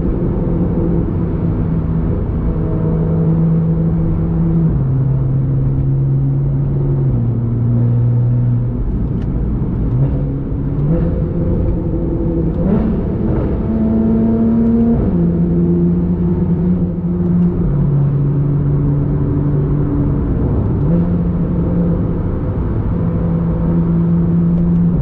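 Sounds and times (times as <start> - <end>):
car engine at highway speed: 0.0 - 25.0.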